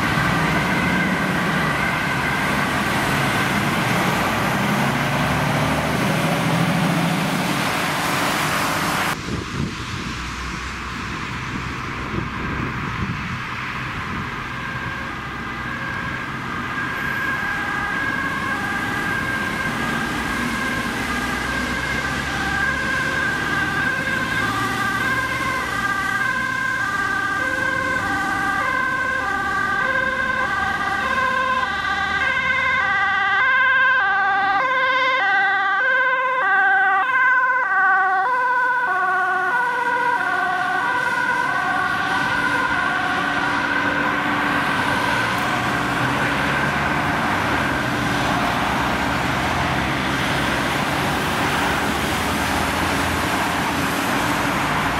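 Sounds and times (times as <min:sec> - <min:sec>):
two-tone ambulance siren: 0:00.0 - 0:09.7, 0:12.4 - 0:54.9
road traffic noise: 0:00.0 - 0:54.9.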